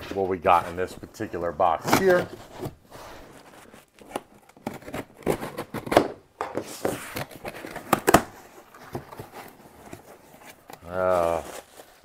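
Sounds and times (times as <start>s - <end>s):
cardboard and tape crackling: 0.0s - 12.0s.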